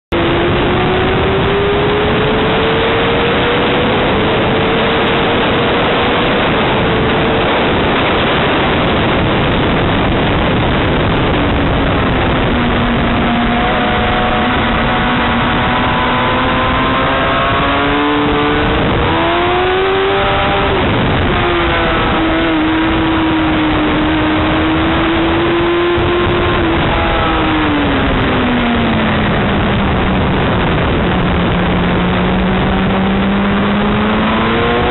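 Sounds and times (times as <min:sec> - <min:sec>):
loud rushing noise: 0:00.1 - 0:34.9
racing motorcycle engines: 0:00.1 - 0:34.9.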